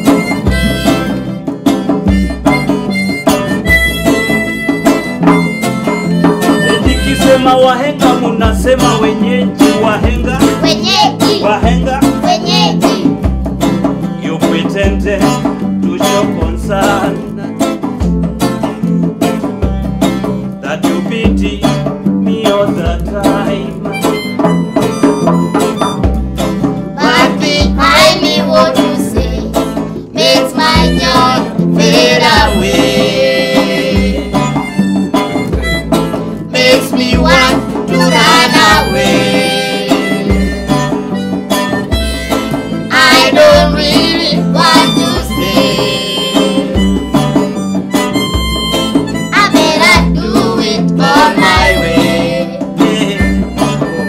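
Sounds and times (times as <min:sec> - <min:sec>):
harmonica melody: 0:00.0 - 0:13.7, 0:23.4 - 0:54.0
djembe beat: 0:00.0 - 0:54.0
strummed acoustic guitars: 0:00.0 - 0:54.0.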